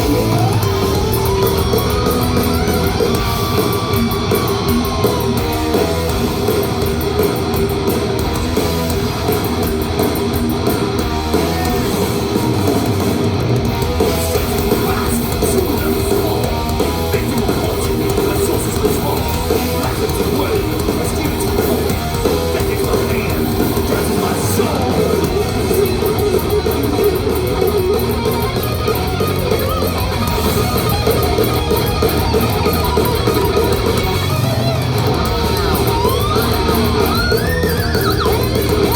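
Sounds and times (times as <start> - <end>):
thrash metal band playing live: 0.0 - 38.9.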